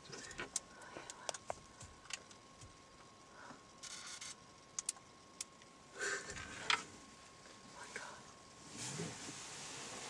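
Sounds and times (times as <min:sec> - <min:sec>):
faint steady high hum: 0:00.0 - 0:10.0.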